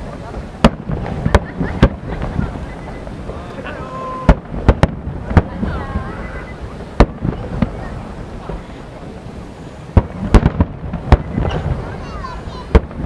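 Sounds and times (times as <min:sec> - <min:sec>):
crowd murmuring and exclaiming: 0:00.0 - 0:13.0
firework shells bursting: 0:00.0 - 0:13.0.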